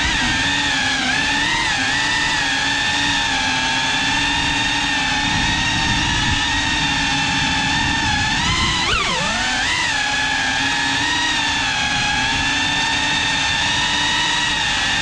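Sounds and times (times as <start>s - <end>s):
quadcopter motors buzzing whine: 0.0s - 15.0s.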